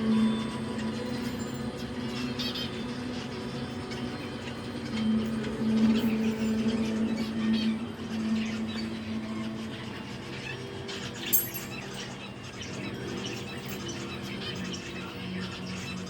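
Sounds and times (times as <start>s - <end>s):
pet birds chirping: 0.0s - 16.0s.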